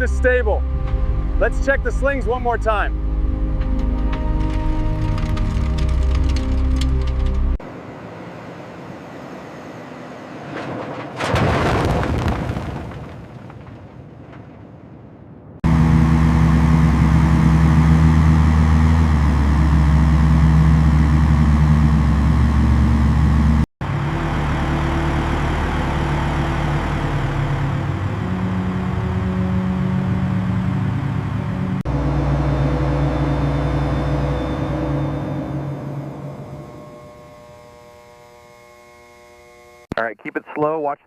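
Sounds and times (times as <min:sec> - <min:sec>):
heavy machinery droning: 0:00.0 - 0:10.8, 0:15.6 - 0:39.9.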